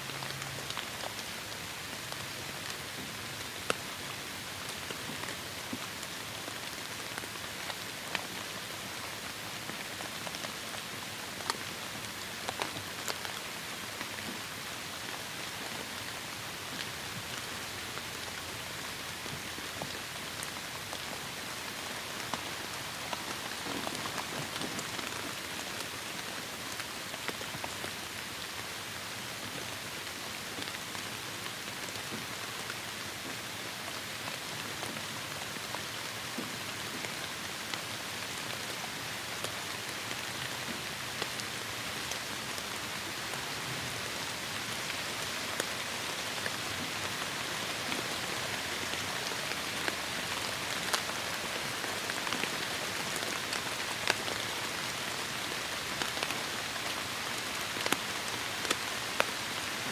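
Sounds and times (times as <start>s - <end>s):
heavy rain falling: 4.0s - 28.5s, 34.4s - 59.9s.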